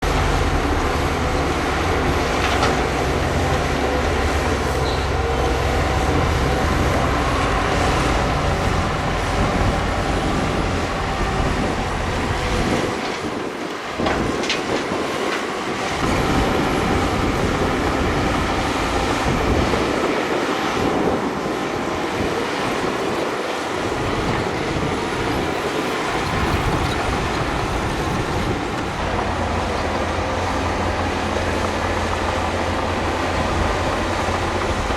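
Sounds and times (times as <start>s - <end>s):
diesel engine running: 0.0s - 14.6s, 15.9s - 34.9s
steel tracks clanking: 0.0s - 34.9s.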